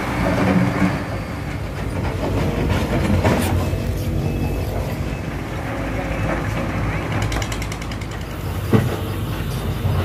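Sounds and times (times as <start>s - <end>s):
diesel machinery rumbling: 0.0s - 10.0s.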